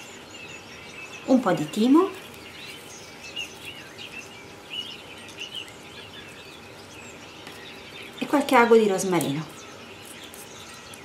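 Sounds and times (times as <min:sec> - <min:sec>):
small songbird chirping: 0:00.0 - 0:11.0.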